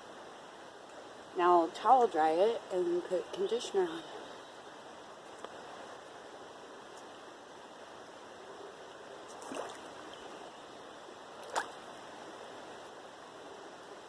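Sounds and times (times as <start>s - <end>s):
river flowing: 0.0s - 14.0s.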